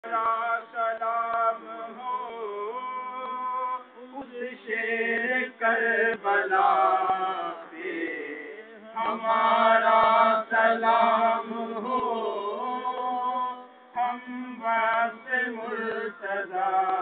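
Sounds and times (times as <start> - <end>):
men chanting: 0.0 - 17.0.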